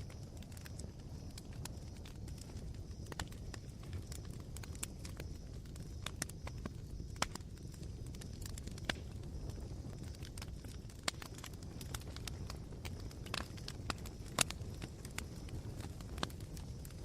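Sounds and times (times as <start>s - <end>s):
campfire coals crackling: 0.0s - 17.0s.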